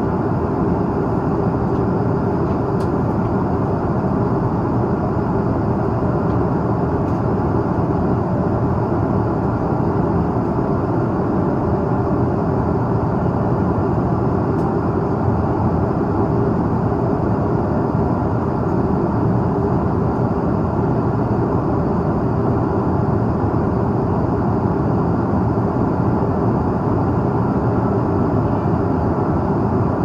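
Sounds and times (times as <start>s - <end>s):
airliner cabin noise in flight: 0.0s - 30.0s.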